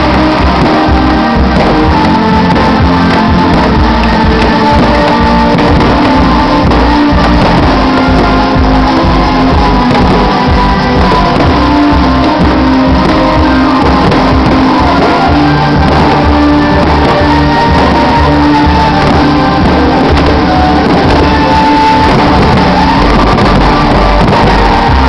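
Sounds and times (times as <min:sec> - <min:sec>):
loud music with held notes: 0:00.0 - 0:25.0.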